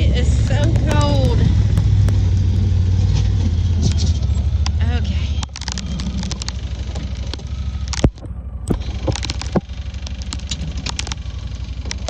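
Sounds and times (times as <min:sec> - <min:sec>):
sharp clicks and knocks: 0:00.0 - 0:04.8, 0:05.4 - 0:11.2
utility vehicle engine droning: 0:00.0 - 0:12.0.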